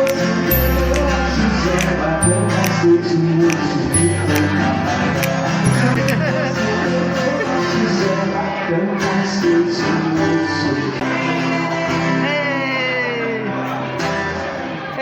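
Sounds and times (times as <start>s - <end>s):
person singing: 0.0s - 14.0s
guitar: 0.0s - 15.0s.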